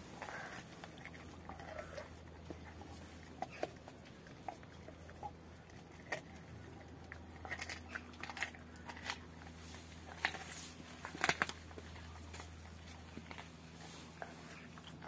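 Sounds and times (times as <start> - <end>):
dog chewing bone: 0.0 - 15.0
teeth crunching on bone: 0.0 - 15.0.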